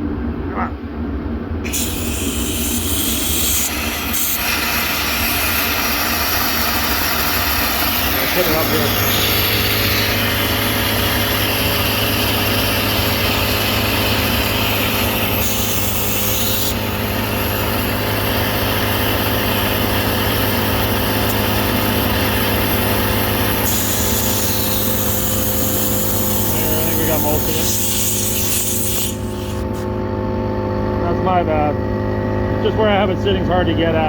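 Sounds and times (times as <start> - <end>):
electric air compressor running: 1.6 - 34.0.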